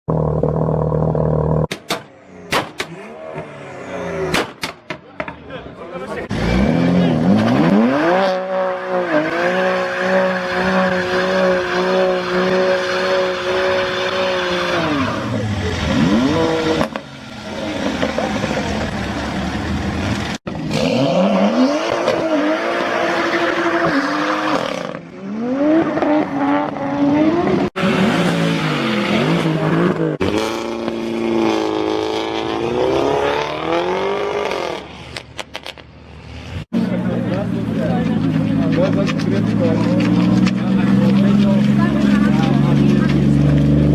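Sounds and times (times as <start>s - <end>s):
car engines revving hard: 6.1s - 43.9s.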